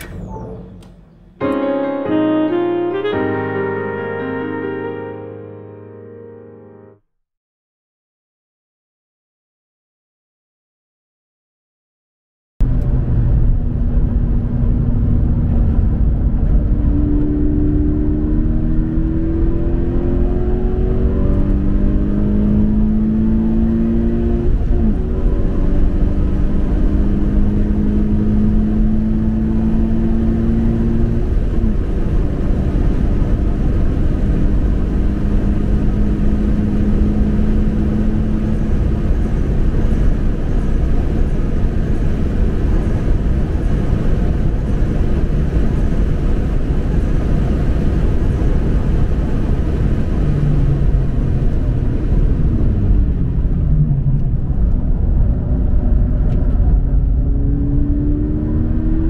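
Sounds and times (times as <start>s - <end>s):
car engine revving: 0.0s - 1.5s, 12.6s - 59.0s.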